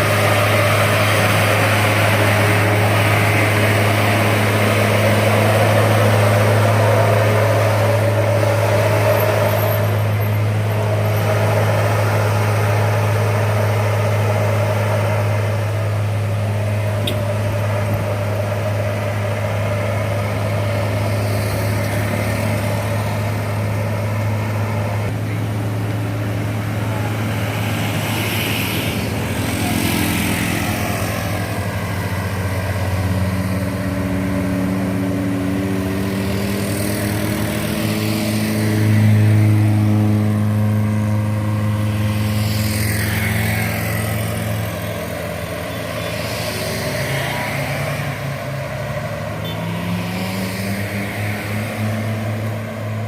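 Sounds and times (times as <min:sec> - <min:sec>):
diesel truck engine under load: 0:00.0 - 0:53.0.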